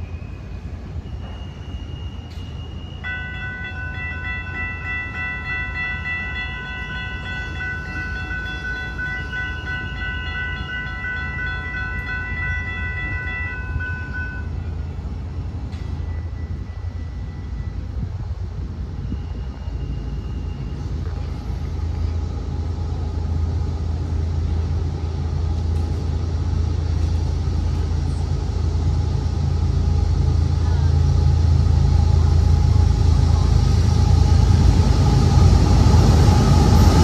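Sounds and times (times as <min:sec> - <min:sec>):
steady low rumble: 0:04.7 - 0:37.0.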